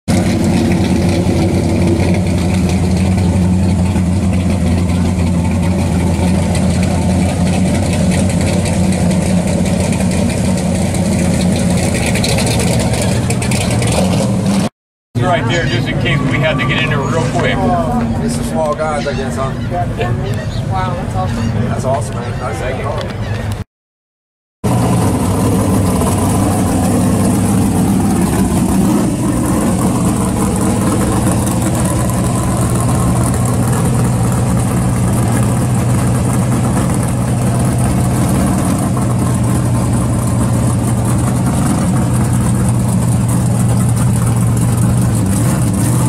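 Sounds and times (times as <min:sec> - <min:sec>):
car engine idling: 0:00.1 - 0:21.4, 0:24.6 - 0:46.0.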